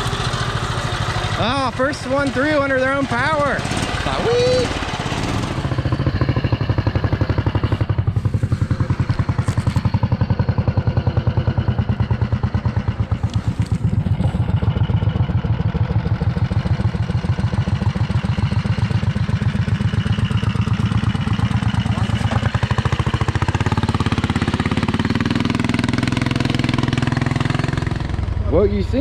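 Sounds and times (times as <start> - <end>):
tractor engine running hard: 0.0 - 29.0.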